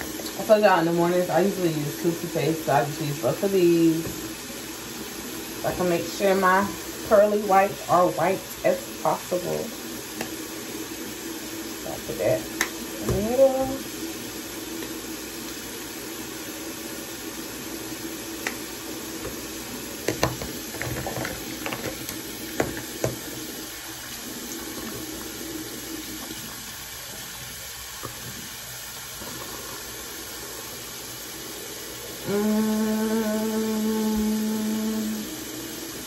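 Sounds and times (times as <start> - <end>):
tap water running into sink: 0.0 - 32.6.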